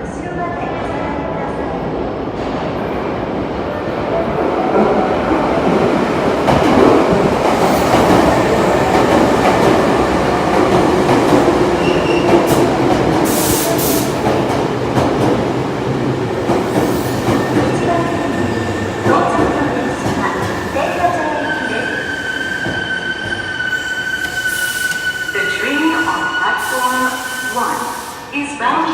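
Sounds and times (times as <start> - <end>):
subway train wheels rumbling: 0.0 - 28.9.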